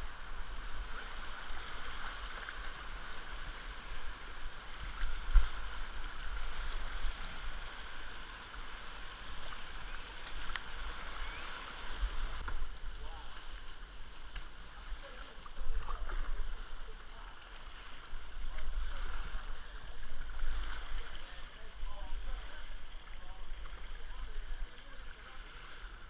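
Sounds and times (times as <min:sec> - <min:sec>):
paddle strokes: 0:00.0 - 0:26.0
water splashing over kayak: 0:00.0 - 0:26.0.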